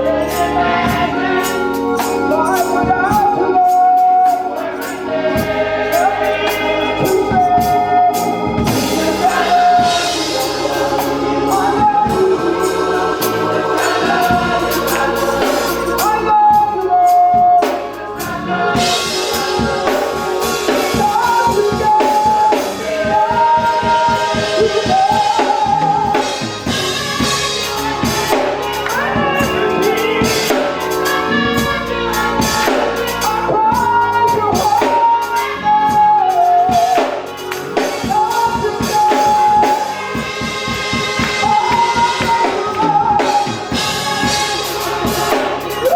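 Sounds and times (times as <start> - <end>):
choir singing gospel: 0.0 - 45.9
drums: 0.0 - 45.9
organ: 0.0 - 45.9.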